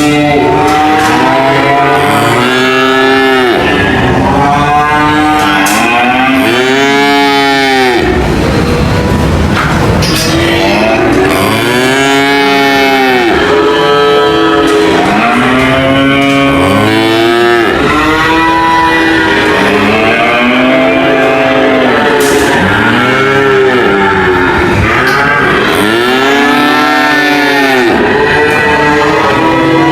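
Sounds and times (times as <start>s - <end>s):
cattle mooing: 0.0s - 29.9s.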